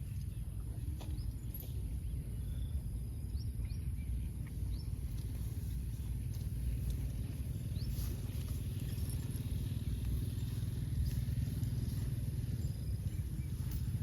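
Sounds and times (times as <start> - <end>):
insect drone: 1.4 - 14.0.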